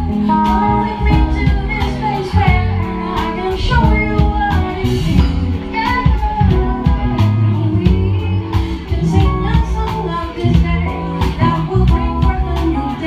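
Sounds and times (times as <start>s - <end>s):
drum kit: 0.0s - 13.0s
electric bass: 0.0s - 13.0s
electric guitar: 0.0s - 13.0s.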